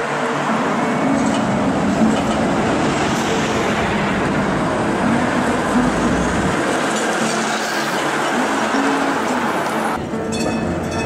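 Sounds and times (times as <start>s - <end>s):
streetcar wheels rumbling on rails: 0.0s - 11.0s.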